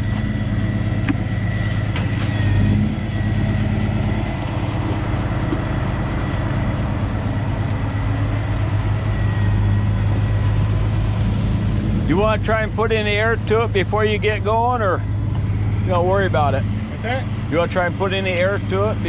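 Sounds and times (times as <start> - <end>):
faint high whine: 0.0 - 17.1
truck engine idling: 0.0 - 19.0.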